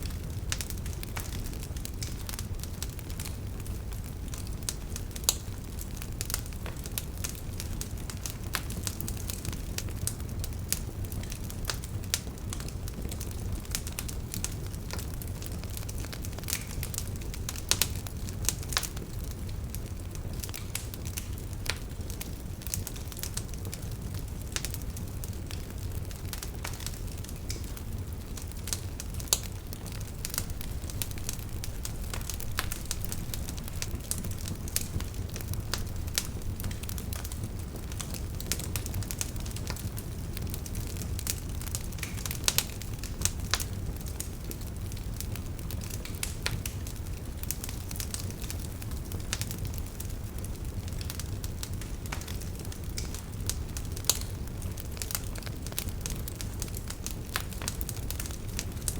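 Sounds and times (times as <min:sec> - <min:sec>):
low rumble of flames: 0:00.0 - 0:58.9
wood crackling and popping: 0:00.0 - 0:58.9.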